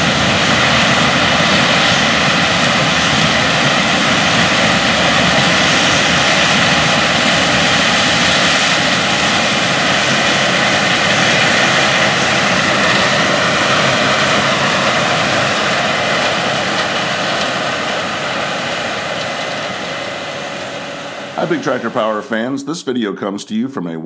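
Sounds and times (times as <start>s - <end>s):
combine harvester running: 0.0s - 22.6s.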